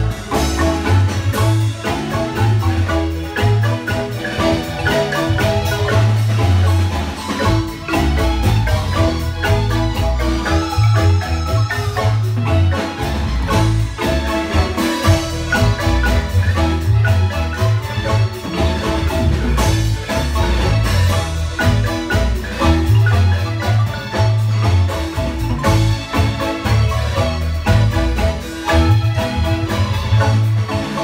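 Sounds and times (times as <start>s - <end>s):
marimba bass line: 0.0s - 31.0s
marimba melody: 0.0s - 31.0s.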